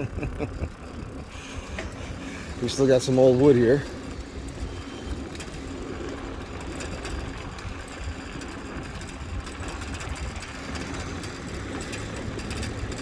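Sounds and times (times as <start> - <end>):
bicycle tyres on wooden planks: 0.0 - 13.0.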